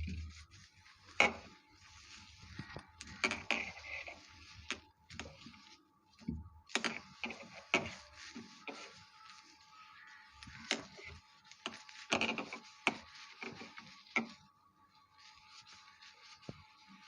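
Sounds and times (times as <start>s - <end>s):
rubbing and wiping: 0.0s - 17.0s.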